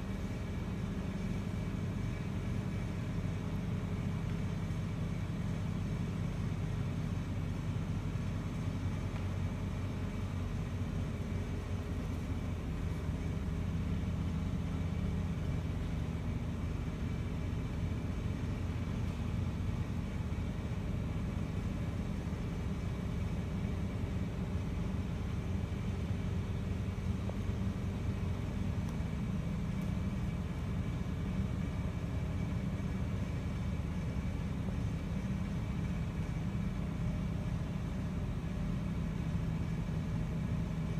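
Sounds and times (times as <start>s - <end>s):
faint hum: 0.0s - 40.9s
steady low rumble: 0.0s - 40.9s.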